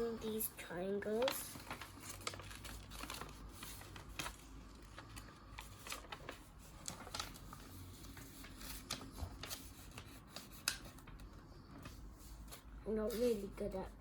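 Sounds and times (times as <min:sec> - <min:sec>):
paper rustling as folded: 0:00.0 - 0:14.0.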